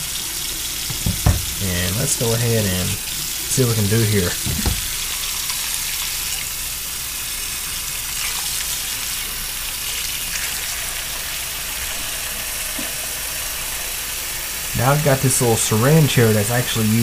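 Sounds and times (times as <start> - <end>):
faucet running into sink: 0.2 - 17.0.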